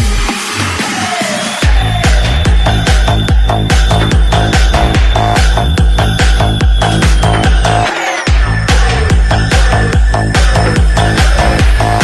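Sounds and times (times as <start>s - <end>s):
electronic dance music: 0.0s - 12.0s
heavy kick drum: 1.6s - 12.0s.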